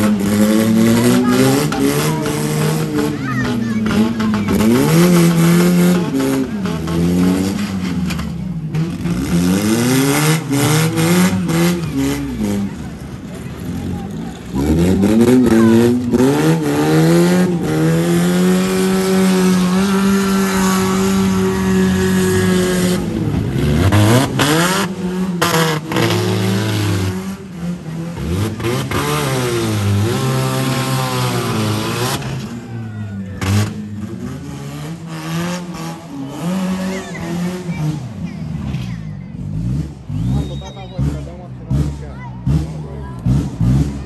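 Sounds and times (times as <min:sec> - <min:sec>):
car engines revving hard: 0:00.0 - 0:44.0.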